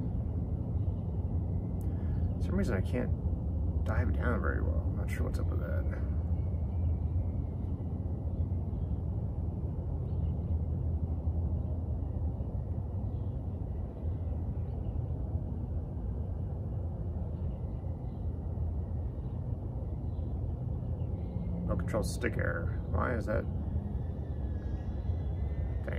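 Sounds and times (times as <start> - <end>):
faint high whine: 0.0 - 25.9.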